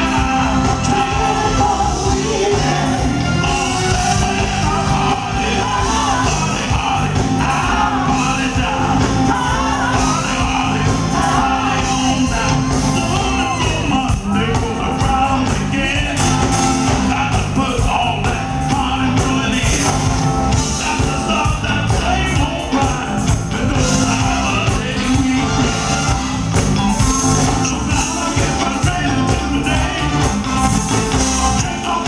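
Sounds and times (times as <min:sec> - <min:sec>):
backing singers: 0:00.0 - 0:32.0
bass groove: 0:00.0 - 0:32.0
keyboards: 0:00.0 - 0:32.0
lead vocalist singing: 0:00.0 - 0:32.0.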